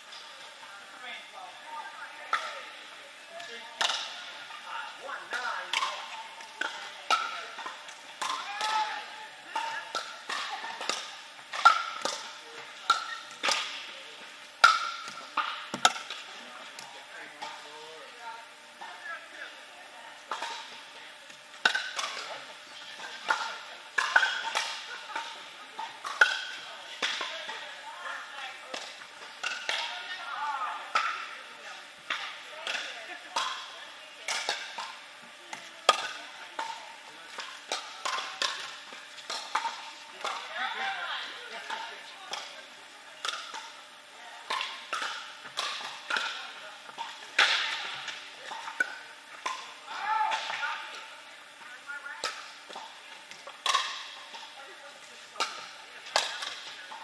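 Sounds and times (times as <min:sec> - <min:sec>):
paddles hitting pickleball: 0:01.9 - 0:19.6, 0:20.2 - 0:43.8, 0:44.4 - 0:57.0.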